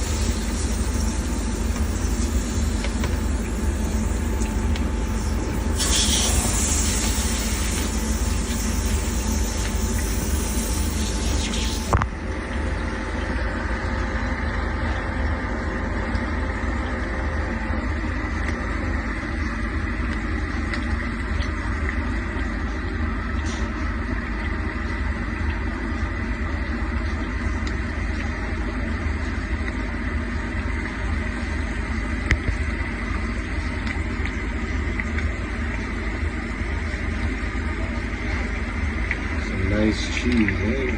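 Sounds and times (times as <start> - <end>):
refrigeration motor humming and whining: 0.0 - 40.9.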